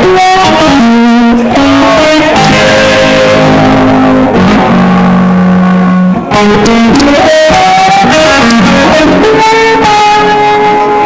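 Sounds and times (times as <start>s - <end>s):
distorted electric guitar solo: 0.0s - 11.0s.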